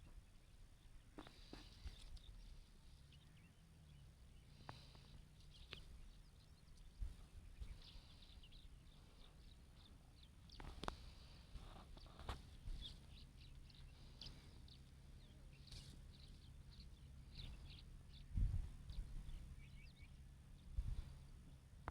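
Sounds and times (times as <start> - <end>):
faint bird chirping: 0.0 - 21.9.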